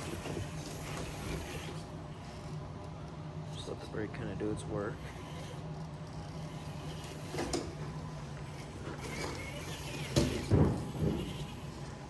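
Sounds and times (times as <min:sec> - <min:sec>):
toy truck motor and gears humming: 0:00.0 - 0:12.0.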